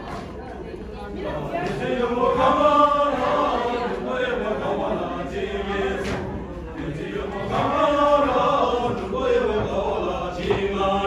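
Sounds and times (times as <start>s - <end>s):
group chanting in unison: 1.0s - 11.0s.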